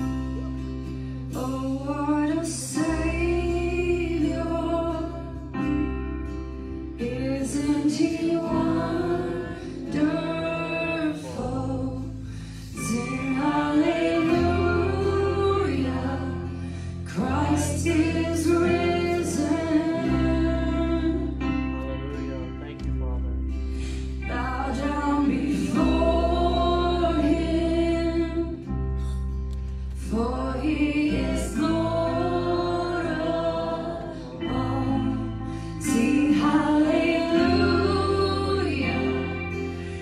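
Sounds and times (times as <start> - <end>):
bass guitar: 0.0 - 40.0
electric guitar: 0.0 - 40.0
women singing together: 1.3 - 5.8, 7.0 - 21.5, 24.2 - 28.8, 30.0 - 40.0.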